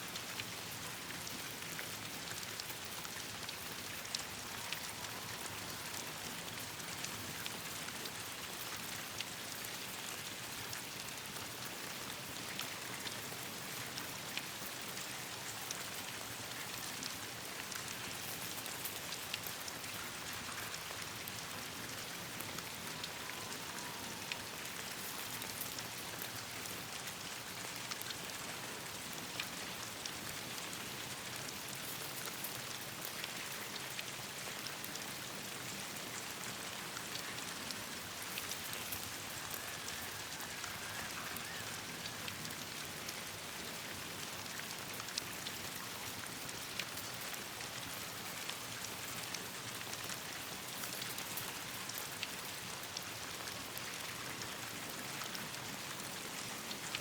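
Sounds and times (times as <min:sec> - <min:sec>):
steady rain on leaves: 0:00.0 - 0:57.0.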